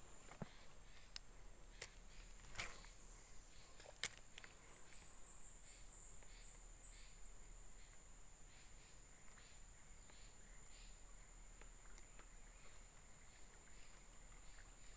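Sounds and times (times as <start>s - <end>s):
insects droning: 0.0s - 14.9s.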